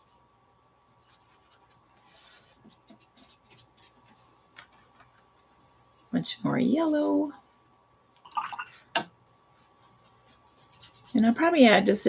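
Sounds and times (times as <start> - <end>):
paintbrush scratching on paper: 0.0 - 7.8, 9.4 - 11.8.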